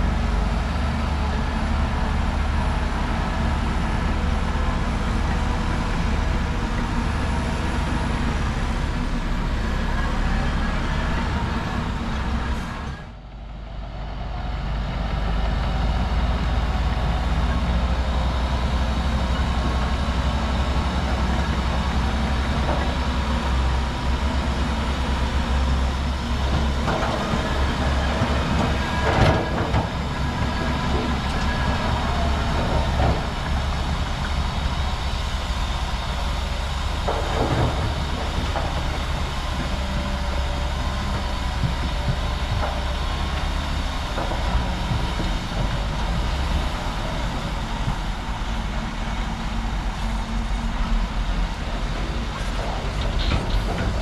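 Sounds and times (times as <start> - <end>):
diesel earthmoving machine running: 0.0 - 54.0.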